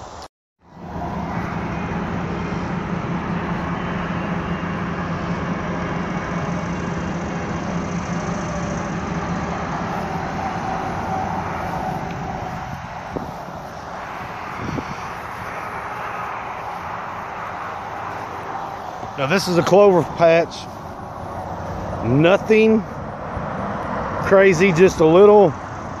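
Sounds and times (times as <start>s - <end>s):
rushing noise: 0.0s - 26.0s
tractor engine running: 0.7s - 26.0s.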